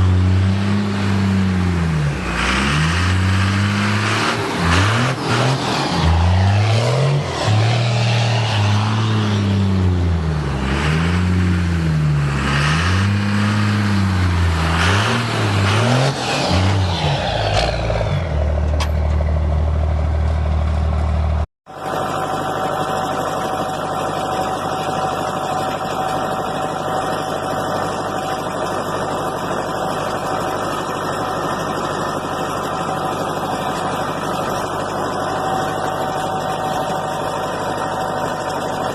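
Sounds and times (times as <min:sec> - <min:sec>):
engine whine: 0:00.0 - 0:38.9
truck engine revving and idling: 0:00.0 - 0:38.9.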